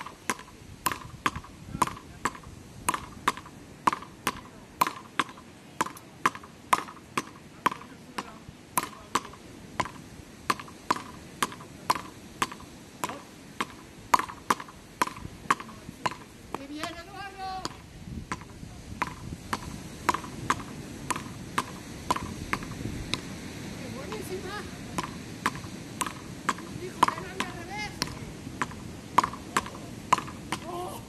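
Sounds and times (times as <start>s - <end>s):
paddles hitting ball: 0.0s - 23.3s, 24.0s - 31.0s.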